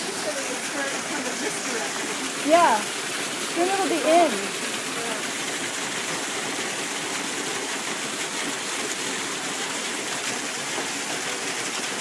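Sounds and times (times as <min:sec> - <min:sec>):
heavy rain hiss: 0:00.0 - 0:12.0
running water: 0:00.0 - 0:12.0.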